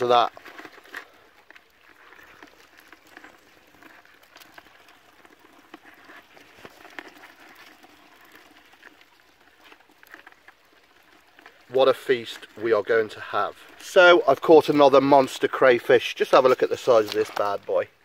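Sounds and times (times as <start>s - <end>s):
crayfish clicking and scraping: 0.0s - 18.0s.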